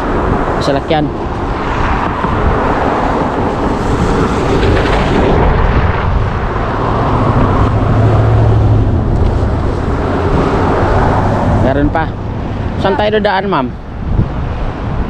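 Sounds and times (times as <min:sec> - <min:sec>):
car passing close: 0:00.0 - 0:13.1
vehicle engine and road noise: 0:00.0 - 0:15.0.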